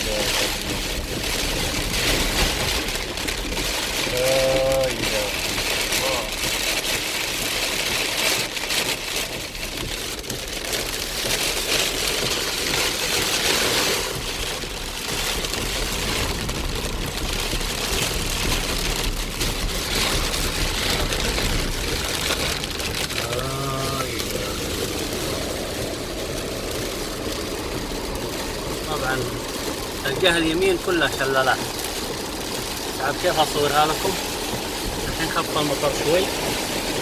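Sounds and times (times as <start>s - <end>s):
car engine and road noise: 0.0s - 37.0s
heavy rain on car roof: 0.0s - 37.0s.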